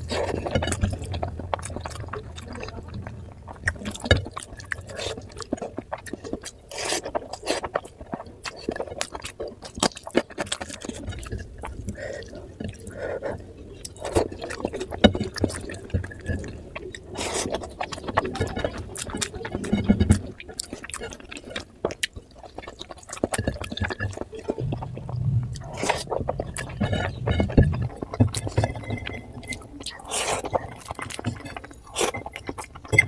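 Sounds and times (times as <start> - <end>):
wet chewing smacks: 0.0 - 33.0.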